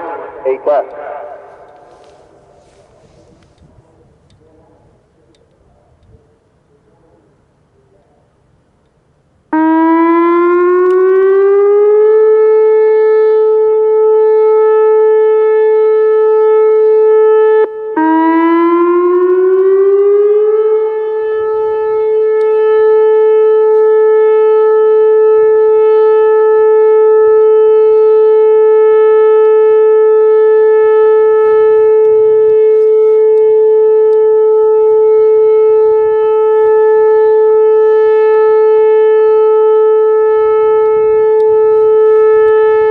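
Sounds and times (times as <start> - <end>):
electronic warning siren tone: 0.0 - 3.8, 9.5 - 42.9.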